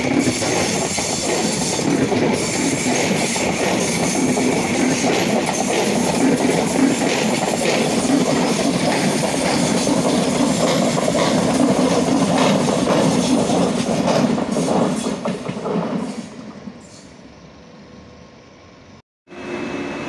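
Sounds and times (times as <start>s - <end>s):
wheels clacking over rail joints: 0.0s - 16.1s
train wheels rumbling on rail: 0.0s - 17.3s.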